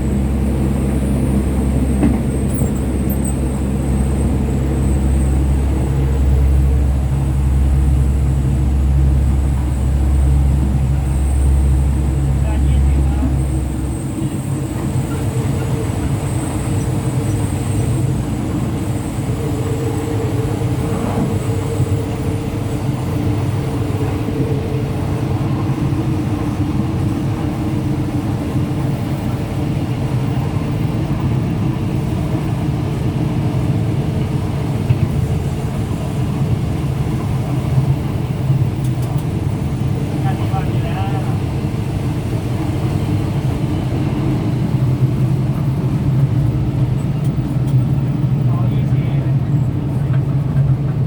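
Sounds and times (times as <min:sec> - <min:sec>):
train rumble and drone: 0:00.0 - 0:51.0.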